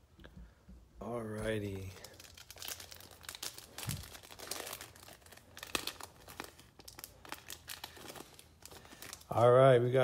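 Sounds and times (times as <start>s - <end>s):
foil wrapper crinkling and tearing: 1.4s - 10.0s.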